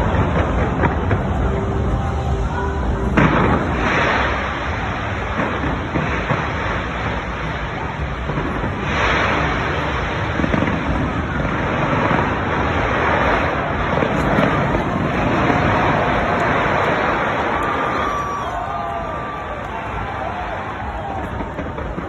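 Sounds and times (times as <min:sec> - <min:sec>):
crowd voices: 0:00.0 - 0:22.0
fireworks bursting and crackling: 0:00.0 - 0:22.0.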